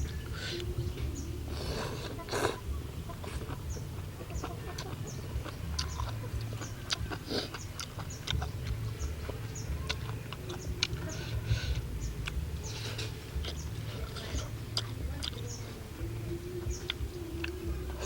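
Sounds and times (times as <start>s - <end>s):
chickens clucking: 0.0s - 18.0s
low steady hum: 0.0s - 18.0s.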